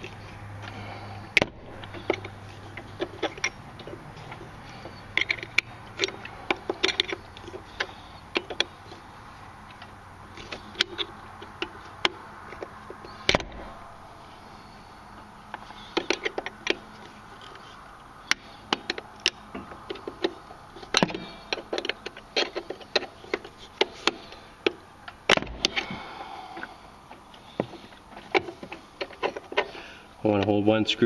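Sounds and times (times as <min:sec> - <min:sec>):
screwdrivers clicking and scraping metal: 0:00.0 - 0:30.5.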